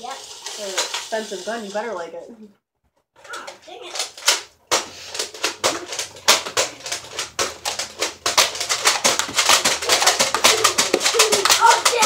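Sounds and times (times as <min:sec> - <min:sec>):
plastic toy blasters clicking: 0:00.0 - 0:01.5, 0:03.2 - 0:12.0.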